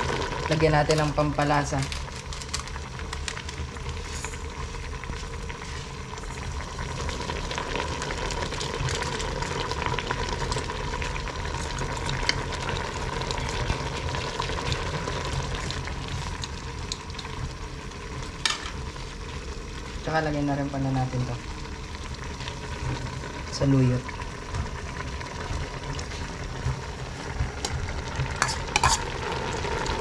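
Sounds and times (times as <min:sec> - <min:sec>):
pot bubbling and sizzling: 0:00.0 - 0:30.0.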